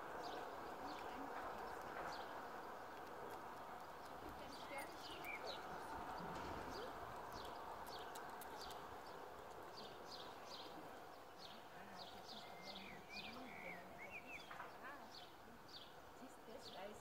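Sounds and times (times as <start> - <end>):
faint outdoor background noise: 0.0 - 17.0
small birds chirping: 0.0 - 17.0.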